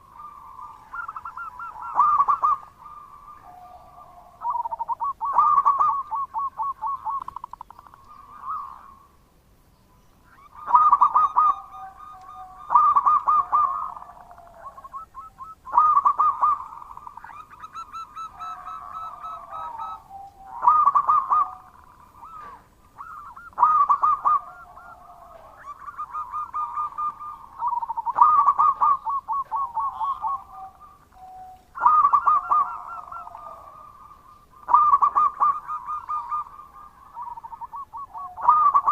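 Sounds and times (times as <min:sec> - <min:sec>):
dove cooing: 0:00.0 - 0:09.2, 0:10.3 - 0:38.9.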